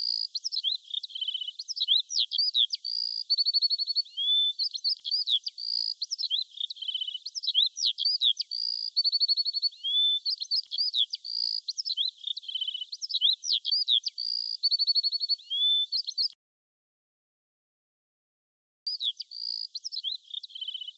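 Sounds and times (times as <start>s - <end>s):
songbird singing: 0.0s - 16.4s, 18.9s - 20.9s.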